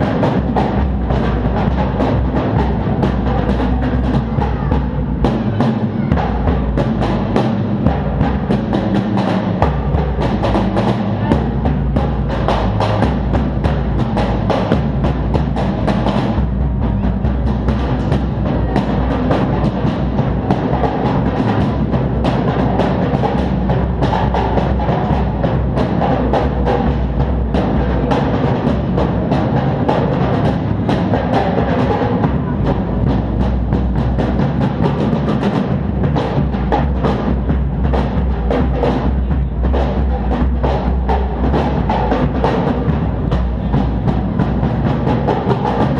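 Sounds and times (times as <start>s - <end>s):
deep low drums: 0.0s - 45.9s
fast drumming: 0.0s - 45.9s.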